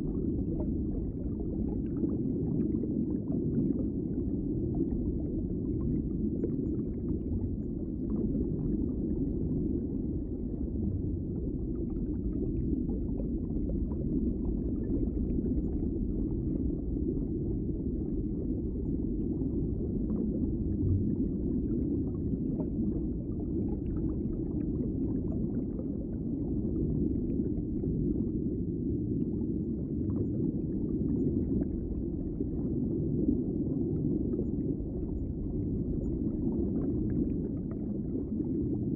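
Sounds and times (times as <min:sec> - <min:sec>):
underwater rumble of moving water: 0:00.0 - 0:38.9.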